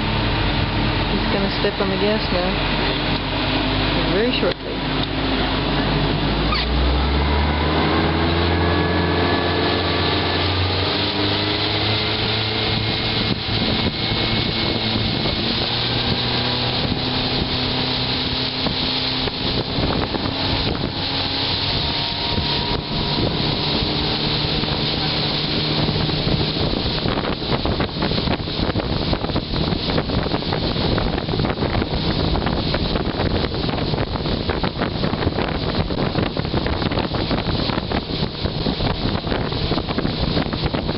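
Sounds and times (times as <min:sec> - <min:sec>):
motorboat engine speeding up: 0:00.0 - 0:40.9
water rushing past hull: 0:00.0 - 0:40.9
wind buffeting microphone: 0:00.0 - 0:40.9.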